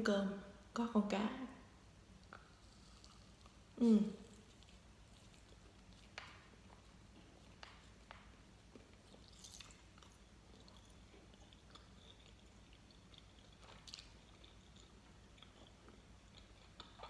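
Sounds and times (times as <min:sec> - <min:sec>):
person chewing candy: 0:02.2 - 0:17.0.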